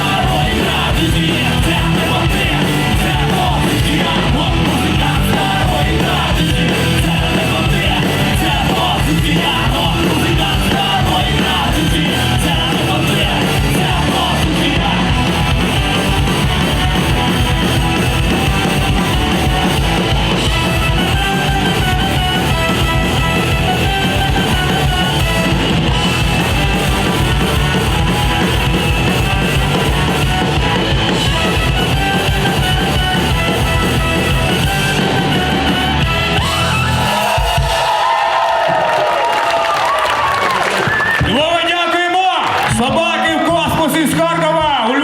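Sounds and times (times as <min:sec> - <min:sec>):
rock band playing: 0:00.0 - 0:45.0.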